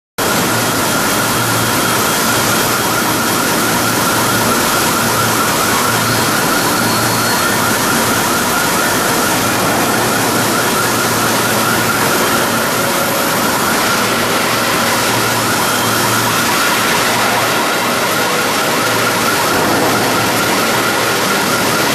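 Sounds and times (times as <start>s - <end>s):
high whine: 0.2s - 21.9s.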